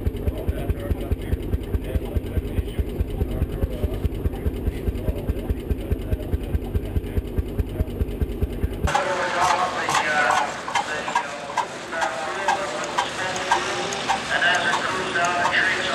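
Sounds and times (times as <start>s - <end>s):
tractor engine idling: 0.0s - 15.9s.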